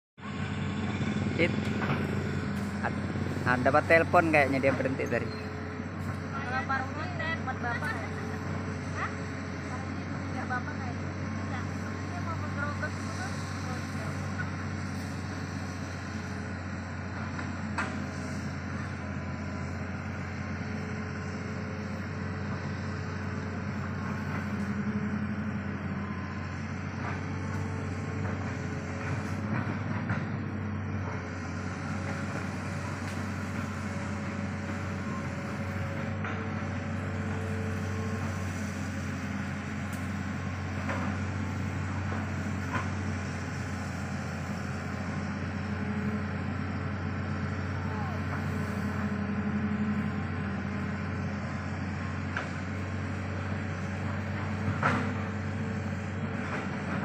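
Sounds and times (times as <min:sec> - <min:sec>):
excavator working: 0:00.2 - 0:57.0
idling motorcycle engine: 0:00.2 - 0:57.0.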